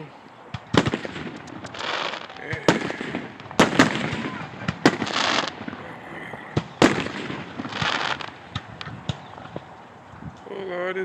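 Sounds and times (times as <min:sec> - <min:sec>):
fireworks bangs: 0:00.0 - 0:10.6
fireworks crackling hiss: 0:00.0 - 0:11.0.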